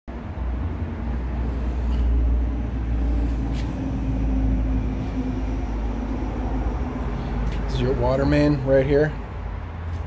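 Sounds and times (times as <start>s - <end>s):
low outdoor rumble: 0.1s - 10.0s.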